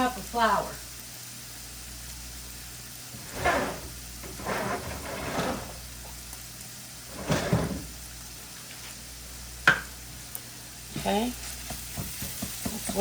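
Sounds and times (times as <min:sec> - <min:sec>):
sausage sizzling in a pan: 0:00.0 - 0:04.4, 0:05.6 - 0:13.0.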